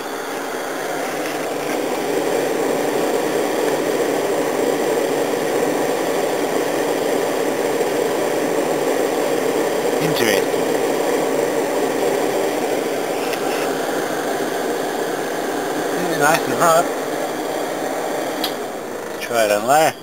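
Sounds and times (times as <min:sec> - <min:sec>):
fan heater blower whirring: 0:00.0 - 0:20.0.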